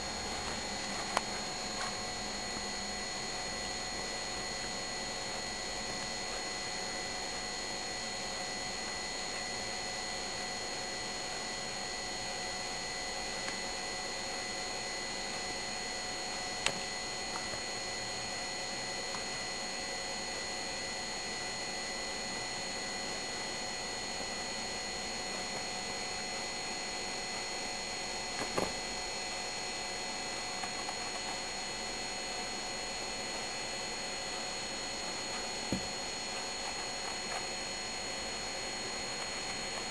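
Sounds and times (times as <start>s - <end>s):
faint whining tones: 0.0s - 39.9s
steady hiss and hum: 0.0s - 39.9s.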